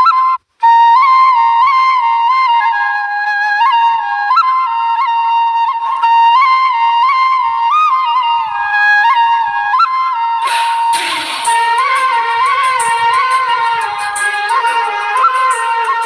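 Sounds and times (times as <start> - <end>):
solo flute-like melody: 0.0 - 16.0.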